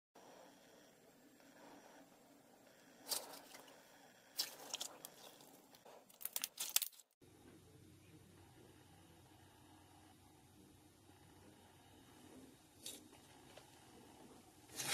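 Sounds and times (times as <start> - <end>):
faint steady hum: 0.2 - 14.9.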